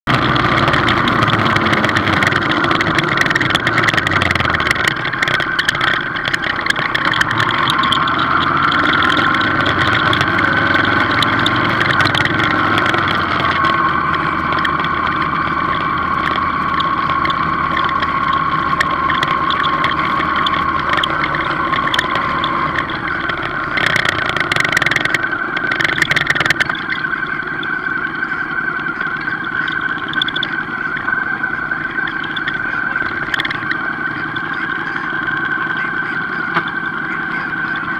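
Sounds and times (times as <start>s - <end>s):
engine whine: 0.0s - 37.9s
motorcycle engine at low speed: 0.0s - 37.9s
sharp crackles: 0.1s - 37.9s.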